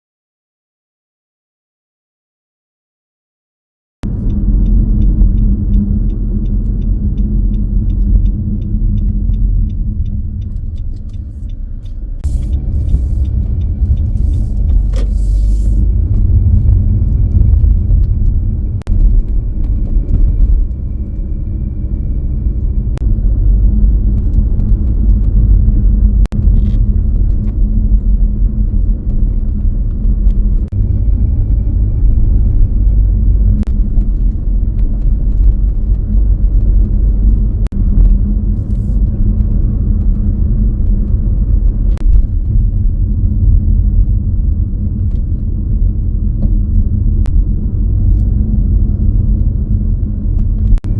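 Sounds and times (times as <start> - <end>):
car engine and road rumble: 4.0 - 50.9.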